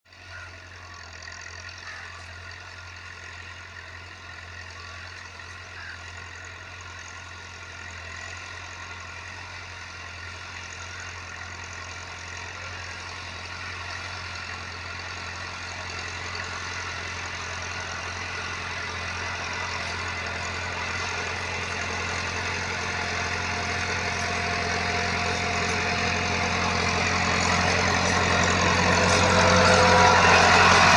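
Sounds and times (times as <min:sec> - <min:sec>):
tractor diesel engine running: 0:00.1 - 0:30.9.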